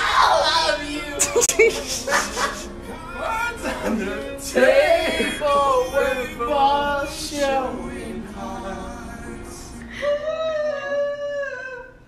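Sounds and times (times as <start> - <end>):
young man singing: 0.0 - 12.0.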